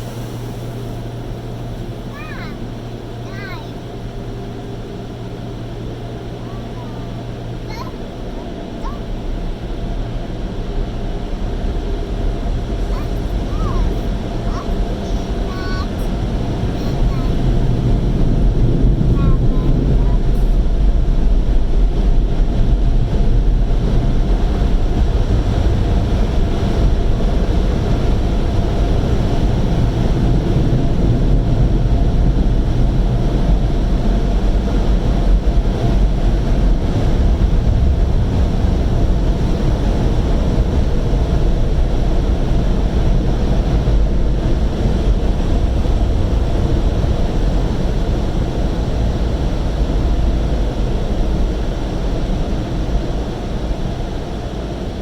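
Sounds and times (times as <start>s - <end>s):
car wash water and air rushing: 0.0s - 55.0s
deep rumble: 3.9s - 55.0s.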